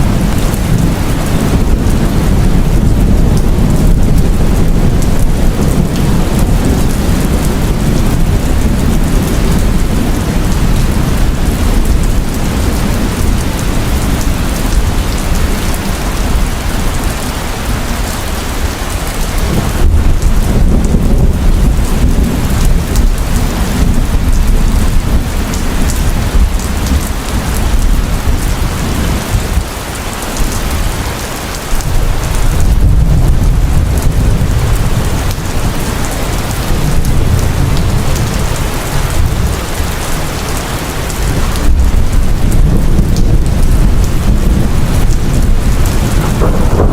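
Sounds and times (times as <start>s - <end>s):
deep rolling thunder: 0.0s - 29.7s, 30.4s - 46.9s
heavy rain falling: 0.0s - 46.9s.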